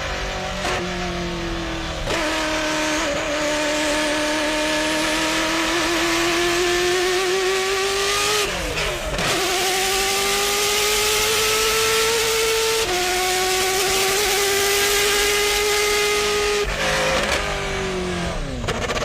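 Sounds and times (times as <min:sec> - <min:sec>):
car engine running hard: 0:00.0 - 0:19.0.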